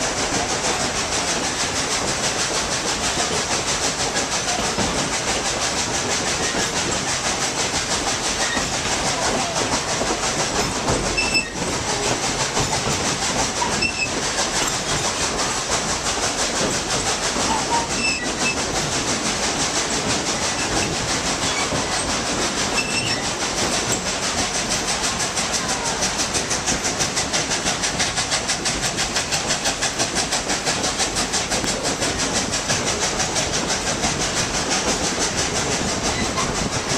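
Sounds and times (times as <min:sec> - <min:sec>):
train rumbling along track: 0:00.0 - 0:36.9.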